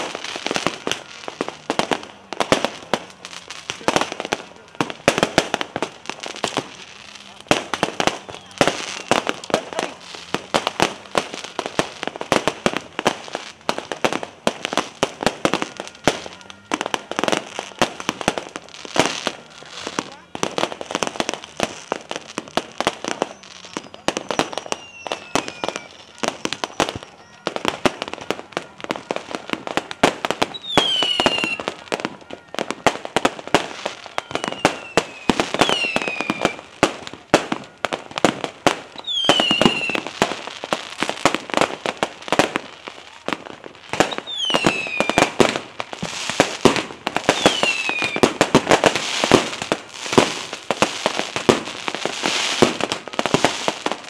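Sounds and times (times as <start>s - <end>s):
fireworks bangs and crackling: 0.0s - 54.0s
whistling firework shells: 3.7s - 54.0s.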